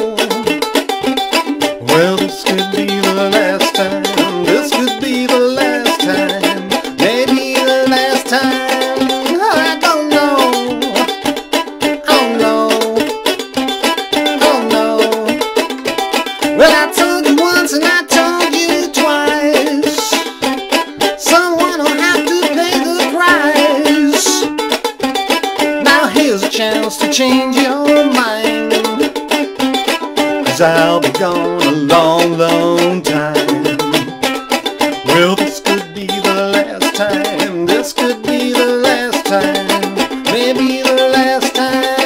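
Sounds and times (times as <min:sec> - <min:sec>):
man singing: 0:00.0 - 0:00.7, 0:01.6 - 0:13.4, 0:14.1 - 0:15.7, 0:16.4 - 0:24.6, 0:25.4 - 0:29.1, 0:30.4 - 0:42.0
ukulele strumming: 0:00.0 - 0:42.0.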